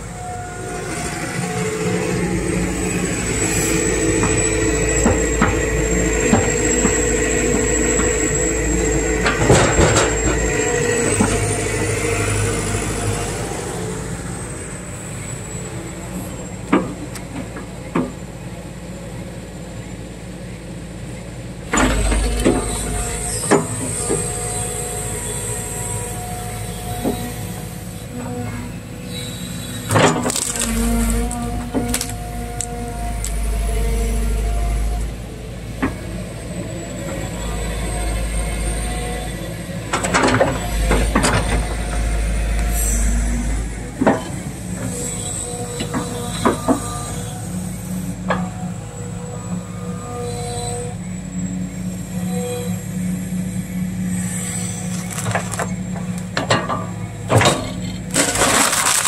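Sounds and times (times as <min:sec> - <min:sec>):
excavator diesel engine and hydraulics: 0:00.0 - 0:59.0.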